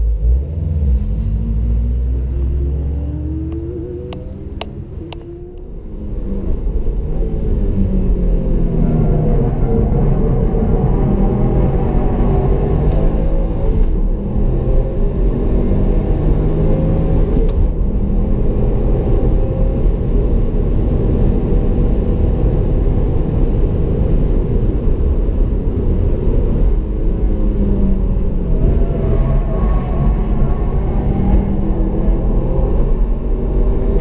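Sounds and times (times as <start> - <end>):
road rumble: 0.0 - 34.0.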